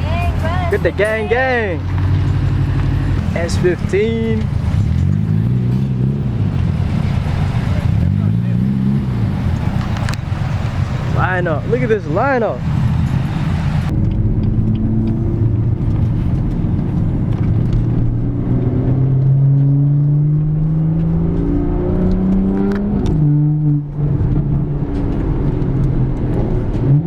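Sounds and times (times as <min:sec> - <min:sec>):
car engine at low revs: 0:00.0 - 0:27.0.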